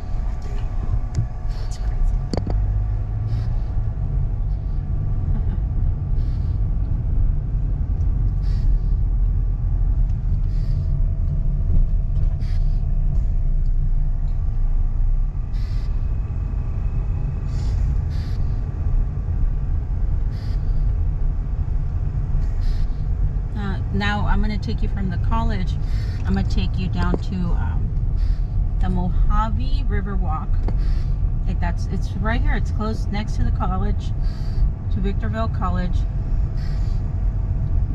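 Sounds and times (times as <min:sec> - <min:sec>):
car rumbling from inside: 0:00.0 - 0:37.9.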